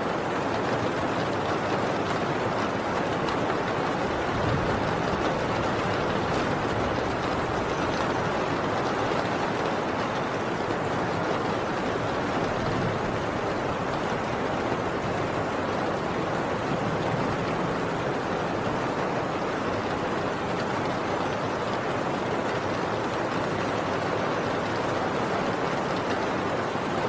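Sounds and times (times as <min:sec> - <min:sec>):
heavy rain on a tin roof: 0:00.0 - 0:27.0.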